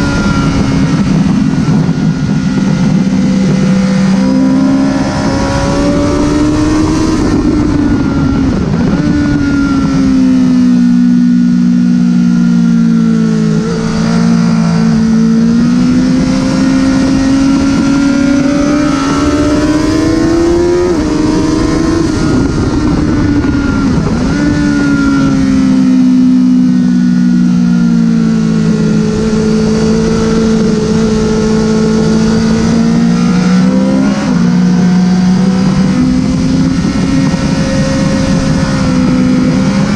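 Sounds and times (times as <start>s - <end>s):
constant rushing noise: 0.0s - 39.9s
motorcycle engine revving: 0.0s - 39.9s.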